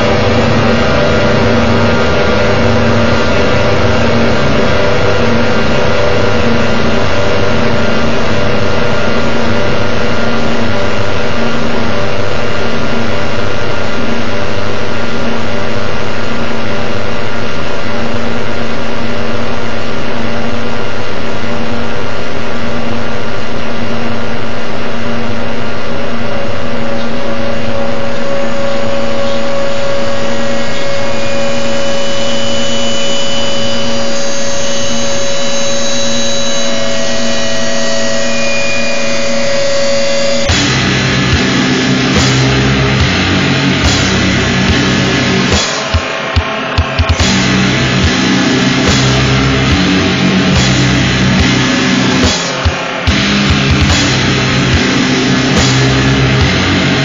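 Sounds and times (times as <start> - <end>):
distorted electronic noise: 0.0 - 57.0
droning tones: 0.0 - 57.0
high whining tones: 0.0 - 57.0.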